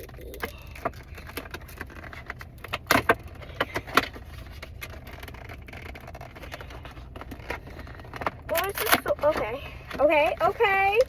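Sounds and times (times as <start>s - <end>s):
squishy toy clicks and rustles: 0.0s - 11.0s.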